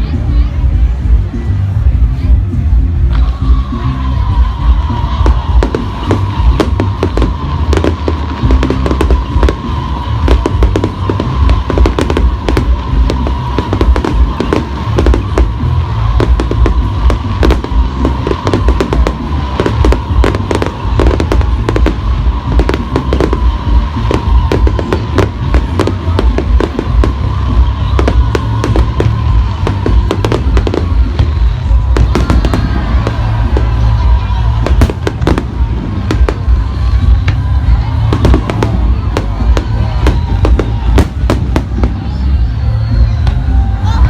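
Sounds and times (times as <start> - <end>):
music playing: 0.0 - 44.0
fireworks bursting: 3.1 - 43.6.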